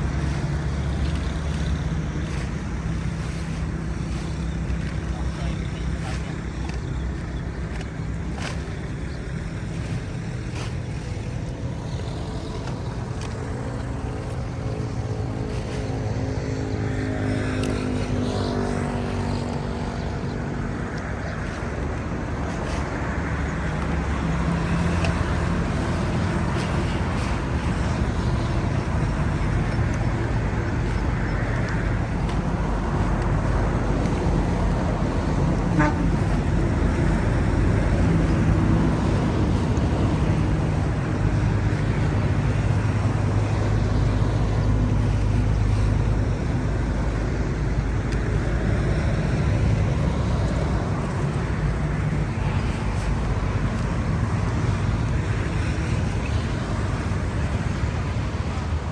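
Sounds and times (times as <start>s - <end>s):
traffic rumble: 0.0s - 58.9s
vehicle passing: 0.0s - 58.9s.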